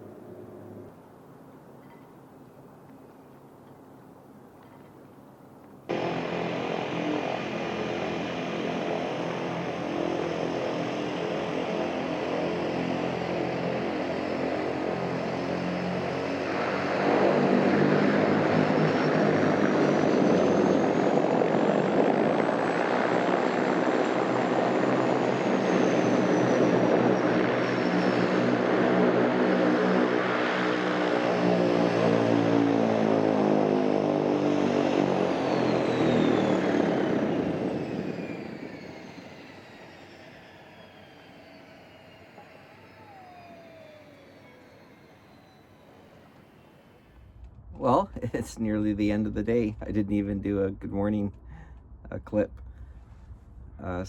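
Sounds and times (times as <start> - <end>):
propeller aircraft engine: 0.0 - 50.6, 51.3 - 54.0.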